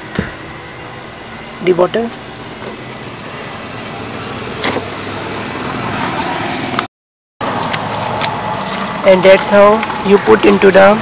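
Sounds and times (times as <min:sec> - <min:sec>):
car running heard from cabin: 0:00.0 - 0:11.0.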